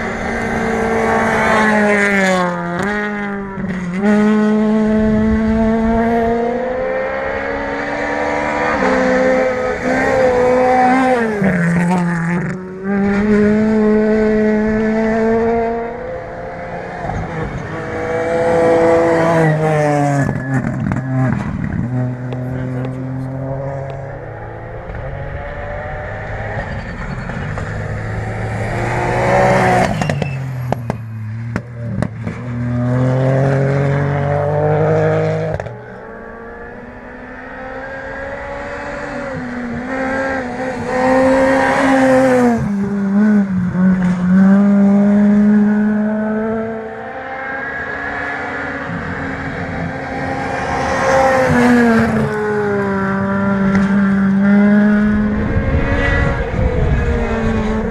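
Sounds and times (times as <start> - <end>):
rally car engines revving: 0.0 - 57.9.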